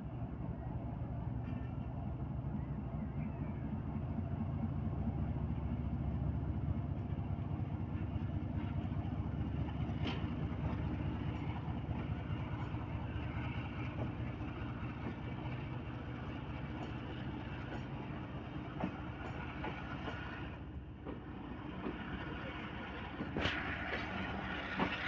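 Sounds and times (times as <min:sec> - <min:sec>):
coaches rumbling on rails: 0:00.0 - 0:25.0
diesel locomotive droning: 0:00.0 - 0:25.0.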